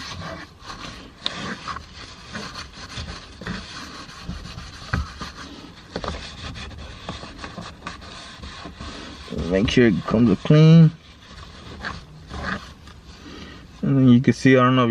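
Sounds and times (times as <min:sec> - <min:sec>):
napkin wiping plastic panel: 0:00.0 - 0:13.1.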